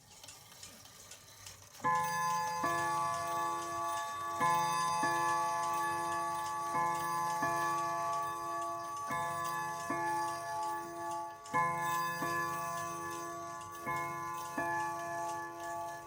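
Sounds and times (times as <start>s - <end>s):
clock chime ringing notes: 1.8s - 16.0s.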